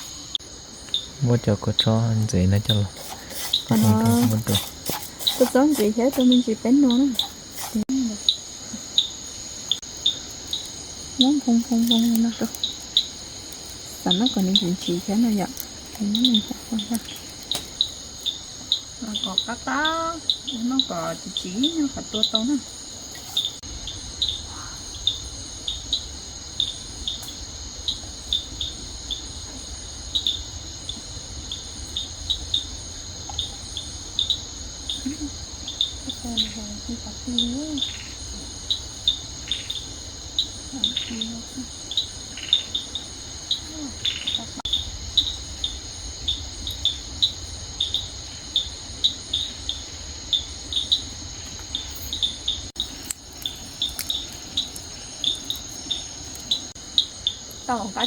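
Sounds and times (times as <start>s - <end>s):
crickets chirping: 0.0s - 58.0s
insect drone: 0.0s - 58.0s.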